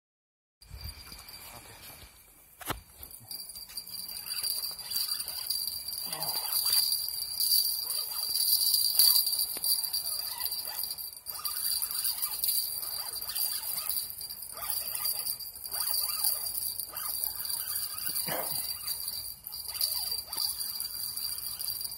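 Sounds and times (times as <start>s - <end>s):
crickets trilling: 0.6s - 21.9s.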